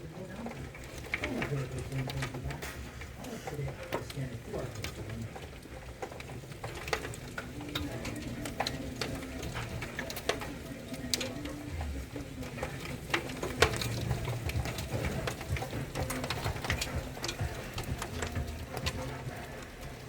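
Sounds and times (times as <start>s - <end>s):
rain: 0.0s - 20.0s
drops ticking on hard surface: 0.1s - 20.0s.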